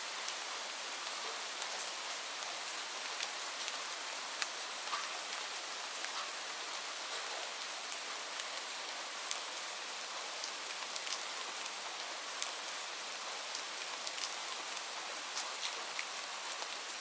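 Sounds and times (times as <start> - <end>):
rain falling on leaves: 0.0 - 17.0.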